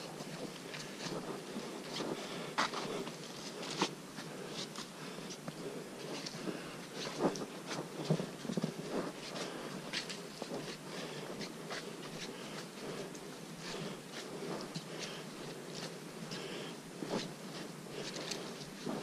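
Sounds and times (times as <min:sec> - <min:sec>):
footsteps on muddy leafy trail: 0:00.0 - 0:19.0.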